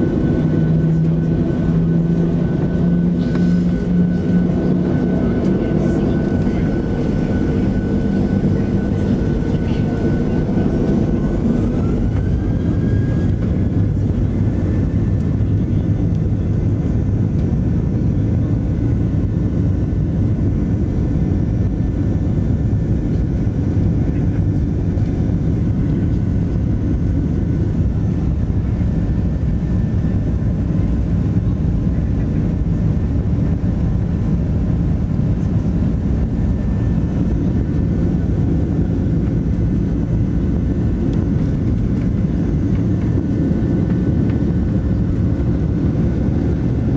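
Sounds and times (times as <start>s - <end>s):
jet engine rumble in cabin: 0.0s - 46.9s
thin jet engine whine: 0.0s - 46.9s.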